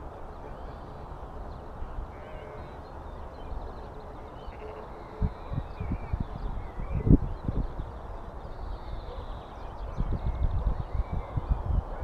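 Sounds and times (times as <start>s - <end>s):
faint birdsong: 0.0s - 12.0s
wind rumbling on microphone: 0.0s - 12.0s.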